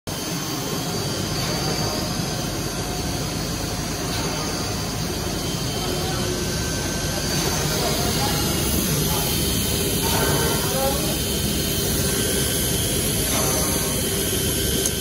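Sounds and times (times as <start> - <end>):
dust extraction running: 0.1 - 15.0.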